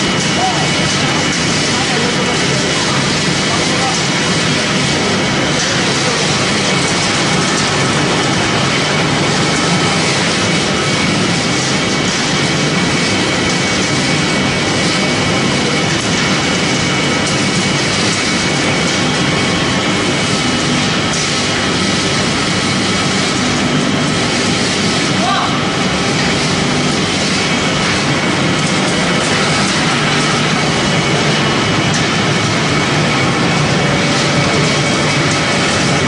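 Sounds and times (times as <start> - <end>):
pellet machine running: 0.0 - 36.0.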